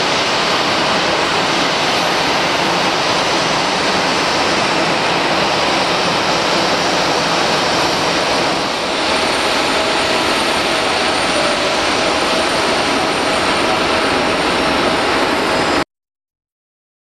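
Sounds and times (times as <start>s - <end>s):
jet aircraft whine: 0.0s - 15.9s.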